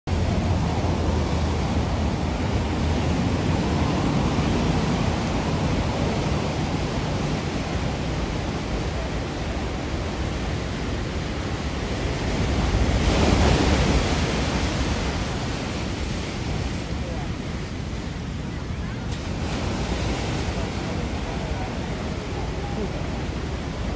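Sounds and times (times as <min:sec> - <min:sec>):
ocean surf breaking over rocks: 0:00.1 - 0:23.9.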